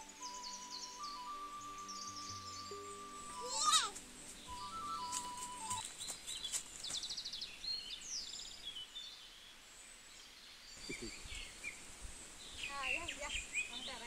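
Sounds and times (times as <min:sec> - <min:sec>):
faint high hiss: 0:00.0 - 0:14.0
small birds chirping: 0:00.0 - 0:14.0.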